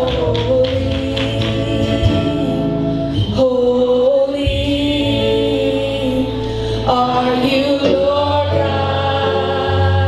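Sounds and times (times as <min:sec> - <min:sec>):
instrumental backing: 0:00.0 - 0:10.0
voices singing worship song: 0:00.0 - 0:10.0.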